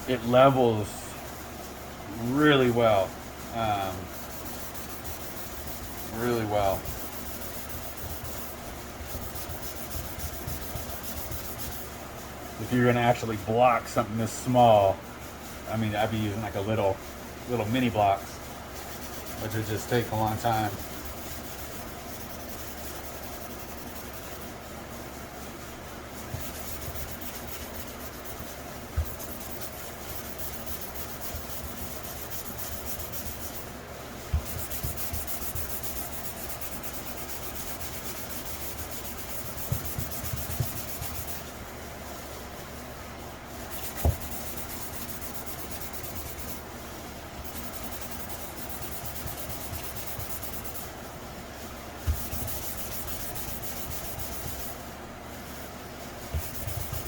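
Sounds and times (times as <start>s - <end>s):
sanding sponge rubbing hiss: 0.1s - 57.0s.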